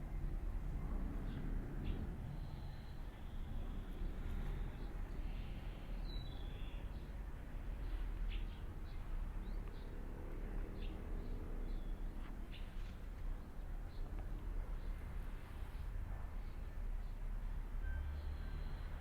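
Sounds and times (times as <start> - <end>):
small birds chirping: 1.1 - 19.0.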